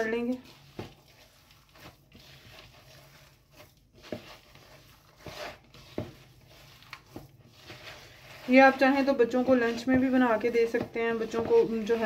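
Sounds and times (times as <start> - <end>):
hand squishing potato mash: 0.0 - 12.0.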